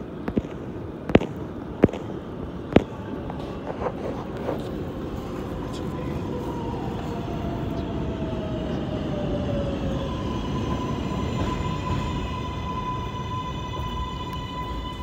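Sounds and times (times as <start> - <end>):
train propulsion whine: 0.0 - 15.0
train wheels rumbling on rails: 0.0 - 15.0.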